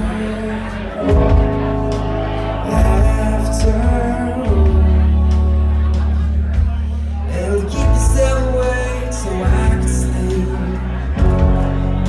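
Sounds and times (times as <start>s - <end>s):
heavy bass: 0.0s - 12.0s.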